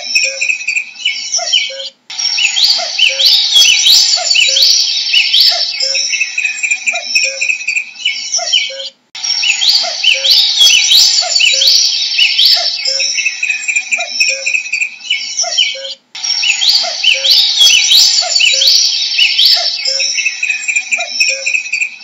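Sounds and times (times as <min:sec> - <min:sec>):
cuckoo calling: 0:00.0 - 0:22.0
songbirds whistling: 0:00.0 - 0:22.0.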